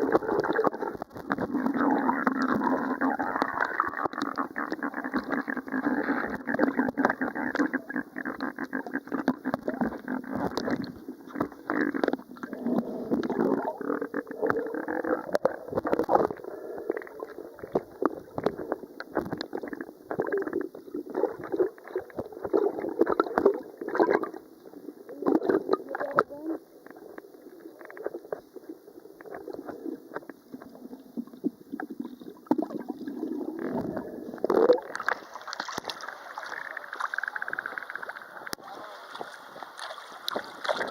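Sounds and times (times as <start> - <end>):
seawater sloshing and gurgling: 0.0 - 40.9.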